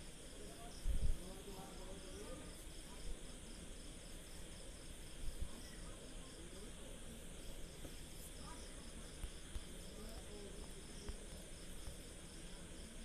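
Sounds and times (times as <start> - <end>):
faint voices talking: 0.0 - 13.0
insects chirping: 0.0 - 13.0.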